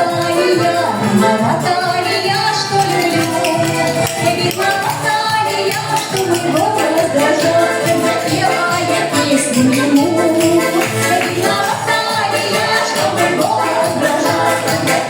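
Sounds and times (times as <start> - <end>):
instrumental accompaniment with beat: 0.0 - 15.0
vocal trio singing: 0.0 - 15.0.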